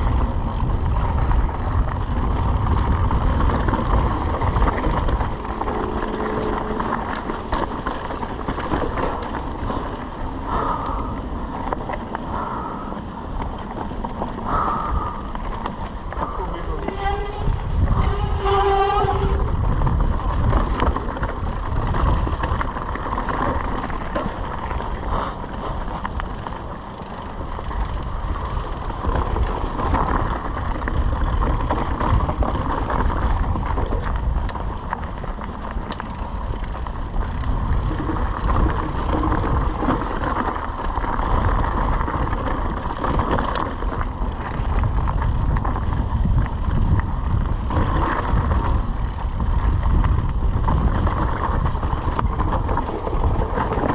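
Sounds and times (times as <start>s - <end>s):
bike rattling over bumps: 0.0s - 53.9s
bike tyres on loose dirt: 0.0s - 53.9s
wind rumble on microphone: 0.0s - 53.9s.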